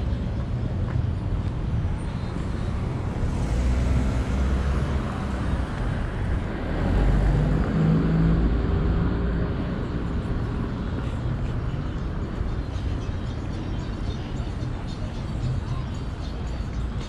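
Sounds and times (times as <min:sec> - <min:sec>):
cars driving slowly: 0:00.0 - 0:17.0.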